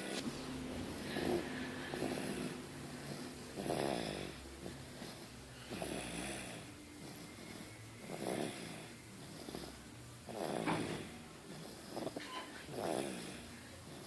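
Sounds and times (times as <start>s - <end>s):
faint low hum: 0.0s - 14.0s
person snoring: 1.0s - 14.0s.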